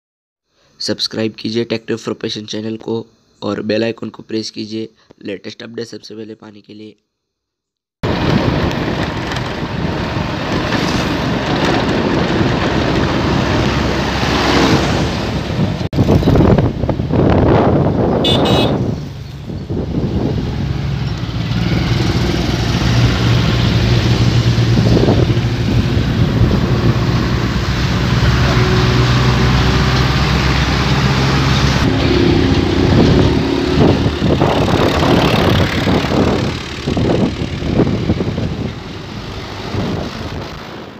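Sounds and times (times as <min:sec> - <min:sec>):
diesel tractor engine under load: 0:08.0 - 0:40.9.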